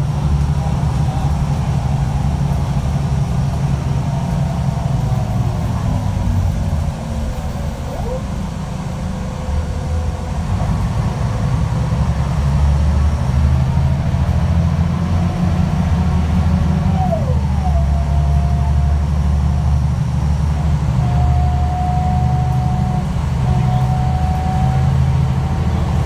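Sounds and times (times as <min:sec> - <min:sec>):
bus engine rumble: 0:00.0 - 0:26.0
high whine: 0:00.0 - 0:26.0.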